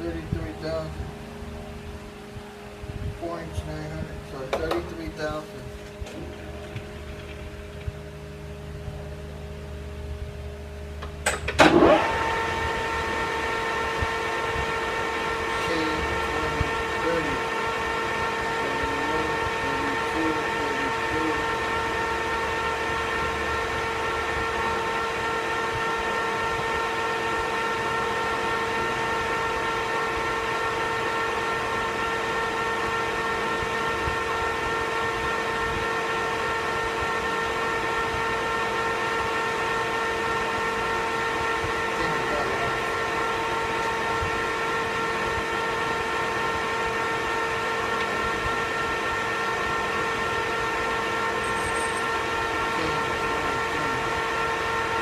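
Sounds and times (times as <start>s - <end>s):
metal lathe whining: 0.0s - 55.0s.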